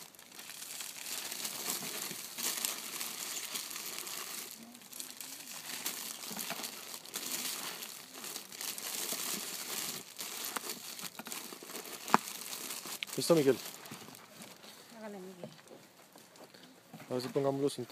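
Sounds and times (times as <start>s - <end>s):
plastic sleeves crinkling: 0.0s - 15.1s.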